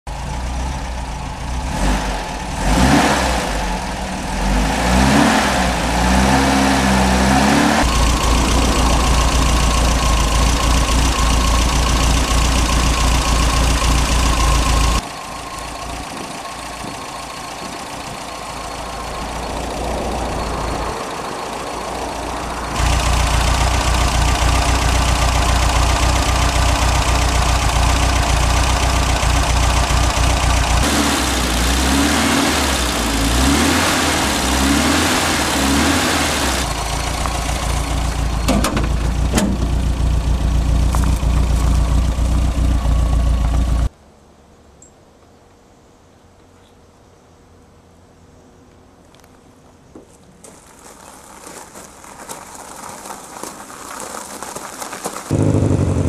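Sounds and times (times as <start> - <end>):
car engine revving and idling: 0.1 - 43.9, 54.6 - 56.0.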